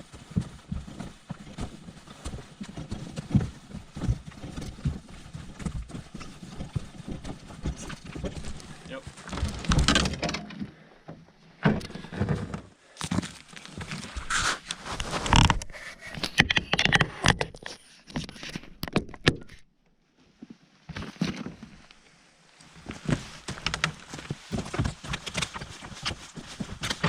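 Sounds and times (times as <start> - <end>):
knocks thuds and scrapes: 0.0 - 19.6, 22.8 - 27.0.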